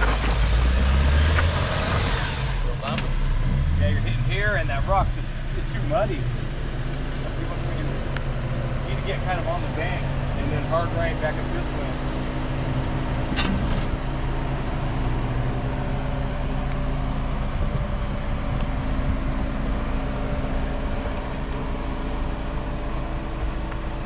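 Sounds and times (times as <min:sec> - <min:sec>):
engine running at low revs: 0:00.0 - 0:24.0.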